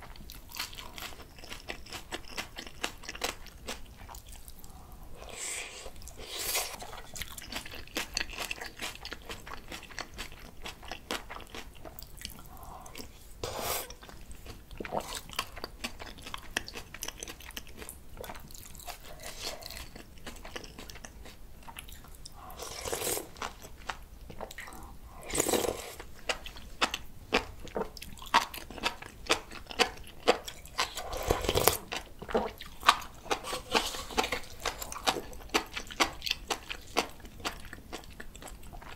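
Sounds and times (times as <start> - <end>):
close chewing and crunching: 0.0 - 5.2, 5.8 - 13.3, 13.9 - 38.9.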